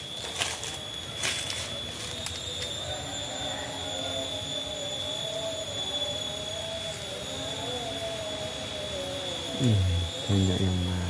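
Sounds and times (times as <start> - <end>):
engine drone: 0.0 - 11.0
high-pitched whine: 0.0 - 11.0.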